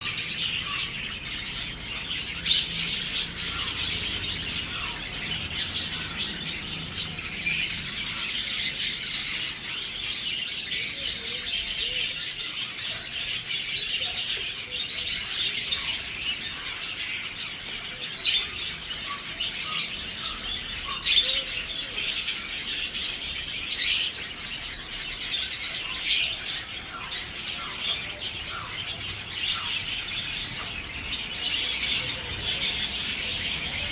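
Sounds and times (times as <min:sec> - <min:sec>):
budgerigar chatter: 0:00.0 - 0:33.9.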